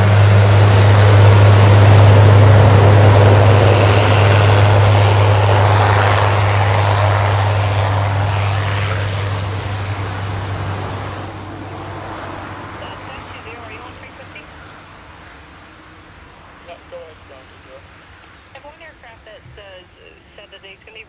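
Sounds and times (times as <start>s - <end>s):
propeller aircraft drone: 0.0s - 21.0s.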